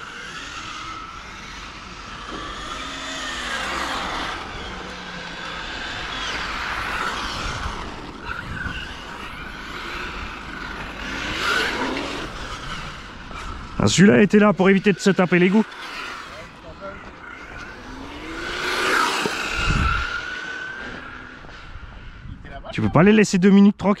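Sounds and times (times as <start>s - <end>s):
model car motor whining: 0.0s - 22.2s.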